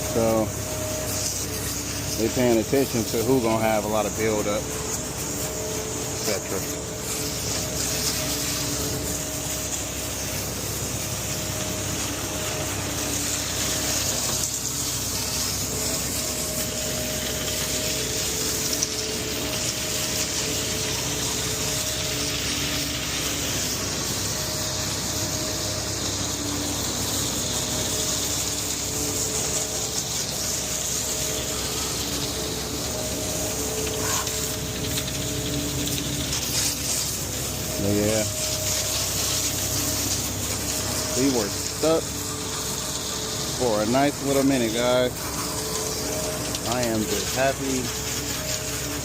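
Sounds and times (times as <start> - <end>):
water spraying from hose: 0.0 - 49.0.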